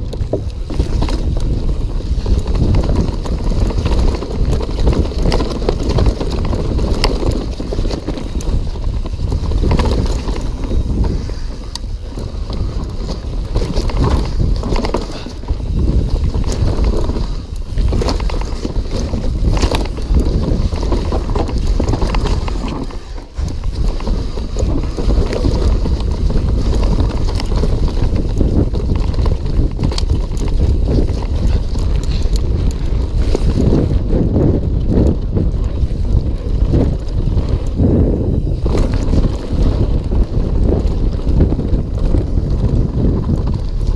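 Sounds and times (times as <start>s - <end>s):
bike rattling over bumps: 0.0s - 43.9s
bike tyres rolling over dirt: 0.0s - 43.9s
wind buffeting microphone: 0.0s - 43.9s.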